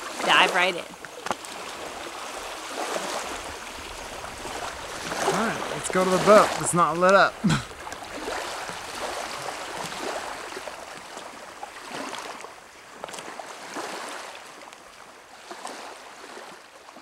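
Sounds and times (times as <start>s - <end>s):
small waves lapping and splashing: 0.0s - 17.0s.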